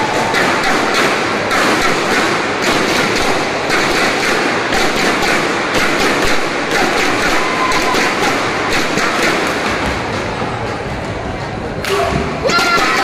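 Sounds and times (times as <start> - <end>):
din of spectators: 0.0 - 13.0.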